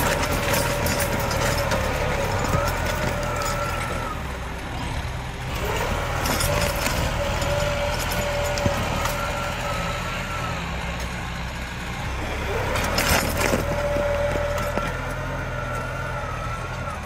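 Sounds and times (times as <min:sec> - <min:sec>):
plough cutting through soil: 0:00.0 - 0:17.0
tractor diesel engine under load: 0:00.0 - 0:17.0.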